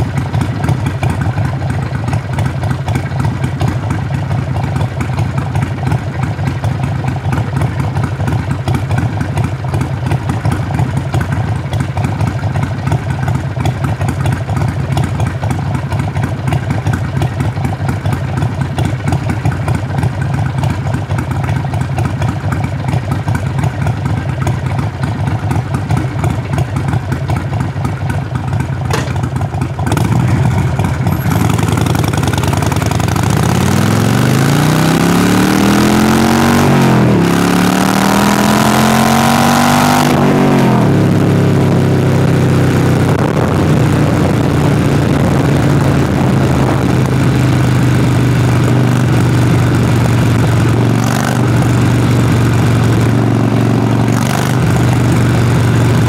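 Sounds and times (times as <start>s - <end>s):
motorcycle exhaust accelerating: 0.0s - 56.0s.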